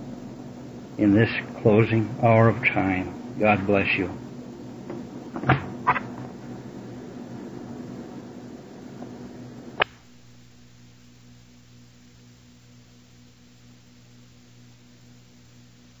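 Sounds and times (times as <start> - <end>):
low mains hum: 0.0 - 16.0
tape hiss: 0.0 - 16.0.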